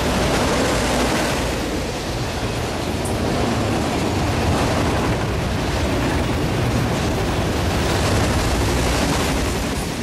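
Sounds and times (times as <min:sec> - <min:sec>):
freight train wheels rumbling on rails: 0:00.0 - 0:10.0.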